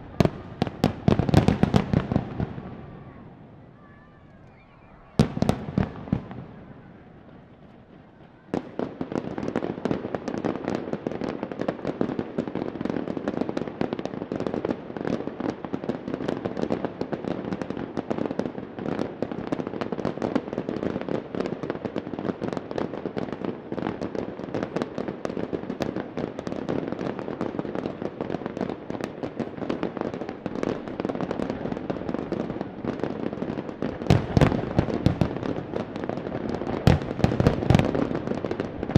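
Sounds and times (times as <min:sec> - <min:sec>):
fireworks bangs: 0:00.0 - 0:13.7, 0:16.1 - 0:38.9
fireworks crackling: 0:00.0 - 0:38.9.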